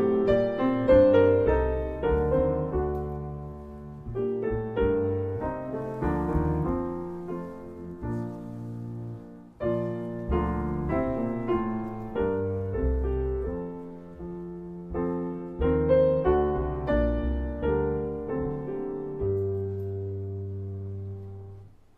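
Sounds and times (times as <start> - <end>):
piano playing slow chords: 0.0 - 21.9.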